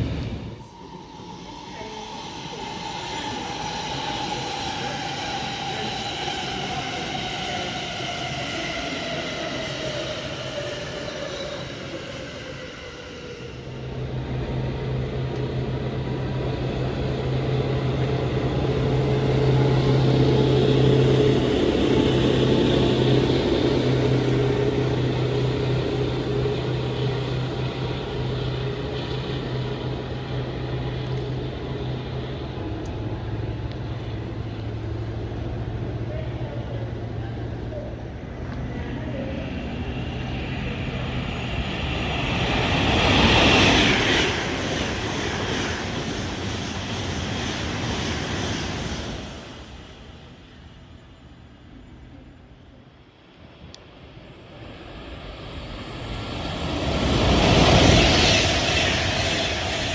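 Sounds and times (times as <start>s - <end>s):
electric train motor whine: 0.0s - 50.8s
heavy train drone and rumble: 0.0s - 59.9s.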